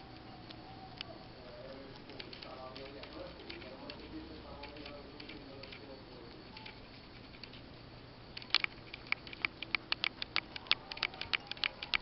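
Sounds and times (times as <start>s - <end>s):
rabbit chewing greens: 0.0s - 12.0s.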